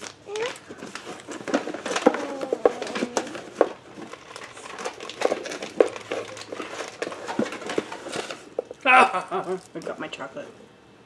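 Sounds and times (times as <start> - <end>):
snack wrappers crinkling: 0.0 - 10.0.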